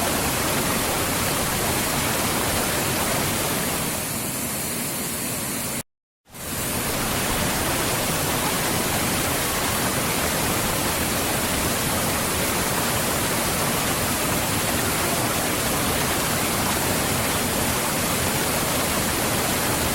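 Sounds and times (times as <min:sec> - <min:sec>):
waterfall rushing: 0:00.0 - 0:04.8, 0:06.3 - 0:19.9.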